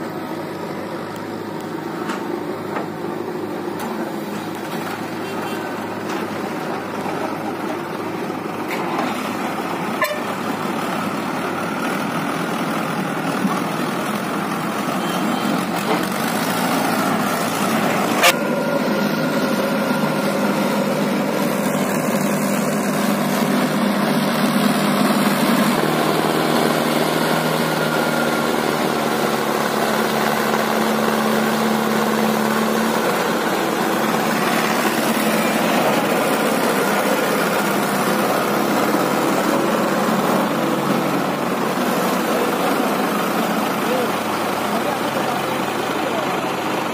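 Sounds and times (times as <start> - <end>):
backhoe loader working: 0.0 - 46.9
tractor diesel engine under load: 0.0 - 46.9.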